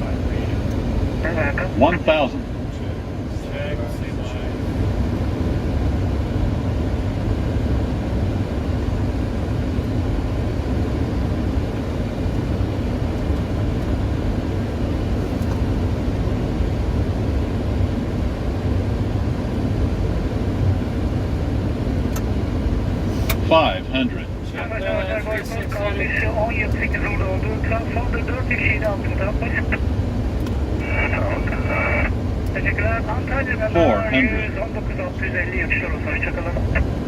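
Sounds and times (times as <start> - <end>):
airflow rushing past cockpit: 0.0 - 37.0
low engine rumble: 0.0 - 37.0.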